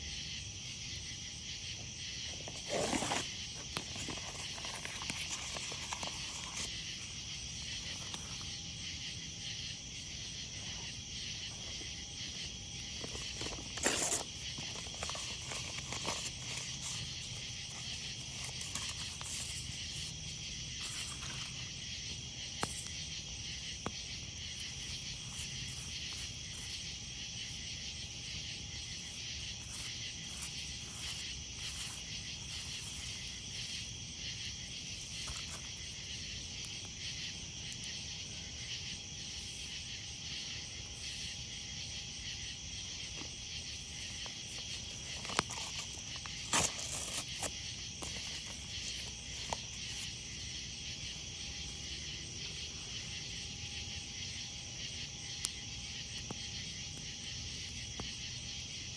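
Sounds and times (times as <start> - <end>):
night insects trilling: 0.0 - 58.9.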